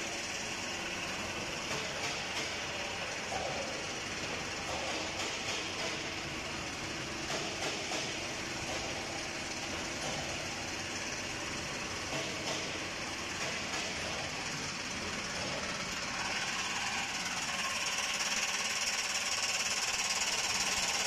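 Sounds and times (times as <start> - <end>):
chain conveyor buzzing rattle: 0.0 - 21.0
production line mechanical hum: 0.0 - 21.0.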